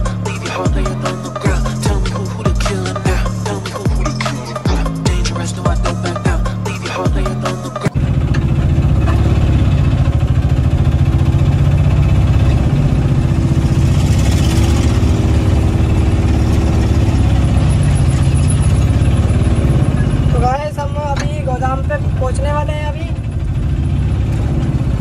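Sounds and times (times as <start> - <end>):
chugging three-wheeler engine: 0.0 - 25.0.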